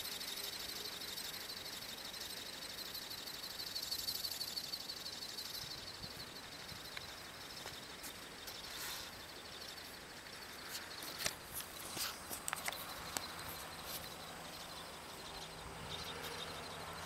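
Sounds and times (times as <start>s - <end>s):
faint high pulsing chirp: 0.0s - 17.0s.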